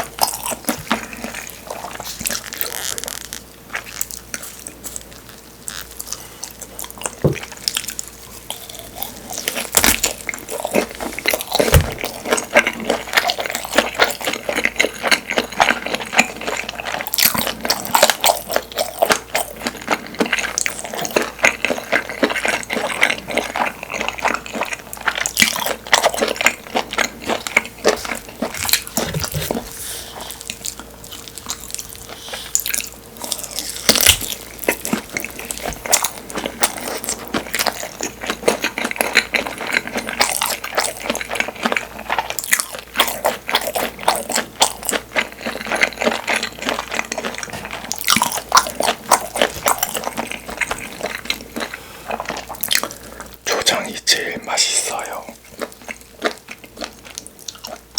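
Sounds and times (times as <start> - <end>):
close chewing with wet clicks: 0.0 - 53.8, 54.4 - 57.9.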